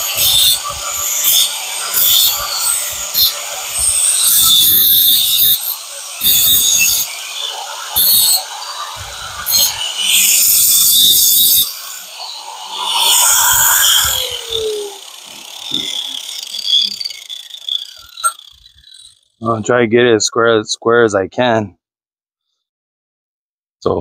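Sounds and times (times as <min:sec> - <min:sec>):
hand tool rasping strokes: 0:00.0 - 0:19.3.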